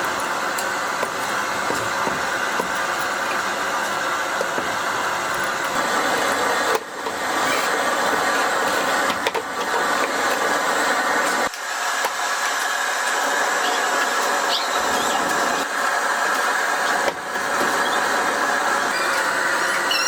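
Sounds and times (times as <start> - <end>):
machine running noise: 0.0 - 20.0.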